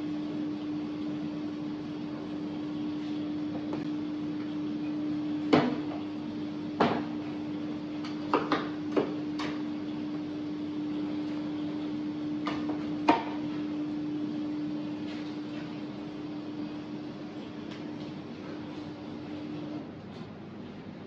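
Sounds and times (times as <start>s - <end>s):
electric hum of kitchen equipment: 0.0s - 21.0s.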